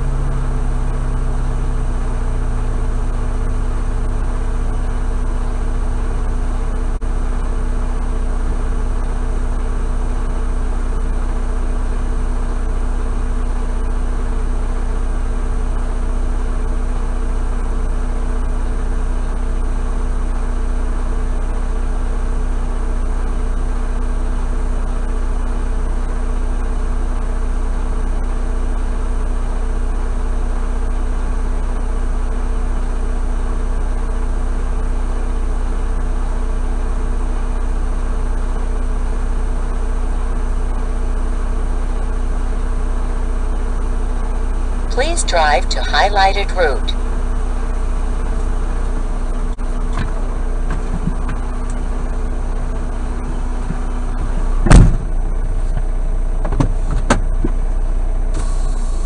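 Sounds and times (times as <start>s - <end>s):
diesel engine idling: 0.0s - 26.1s, 35.9s - 59.0s.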